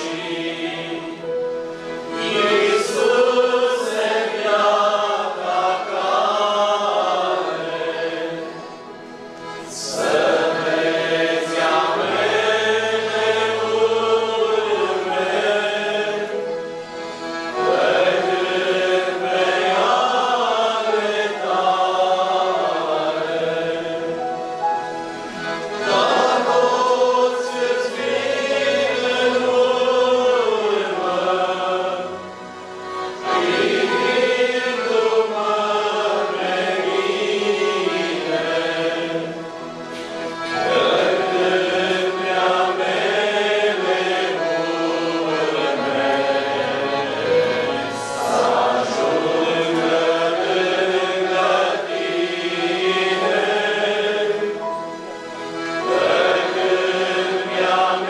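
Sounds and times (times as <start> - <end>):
accordions: 0.0 - 58.0
choir singing a hymn: 0.0 - 58.0
keyboard: 0.0 - 58.0.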